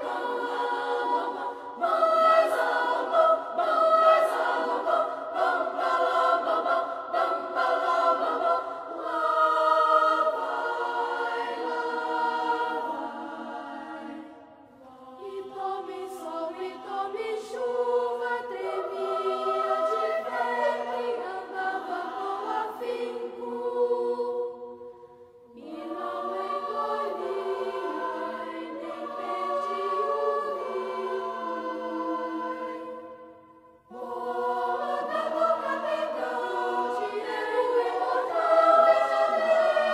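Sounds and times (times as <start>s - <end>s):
children's choir singing: 0.0s - 39.9s.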